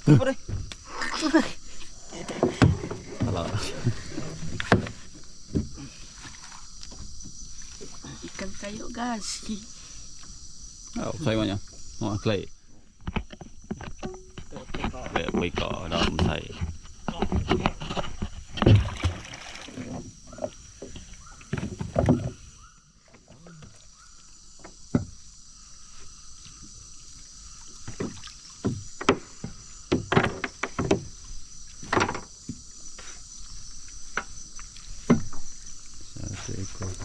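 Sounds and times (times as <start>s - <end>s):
high-pitched insect drone: 0.1s - 16.5s, 23.7s - 37.0s
knocks and splashes of boat: 2.0s - 9.4s, 11.0s - 25.3s, 26.4s - 37.0s.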